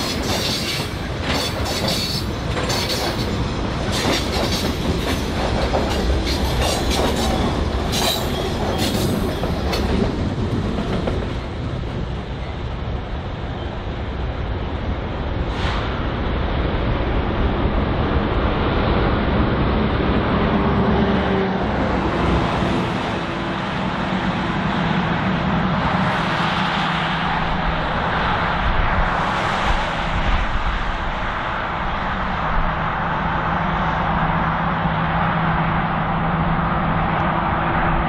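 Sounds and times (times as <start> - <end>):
diesel locomotive engine drone: 0.0 - 38.0
road traffic passing: 0.0 - 38.0
rumble of tank cars: 0.0 - 38.0.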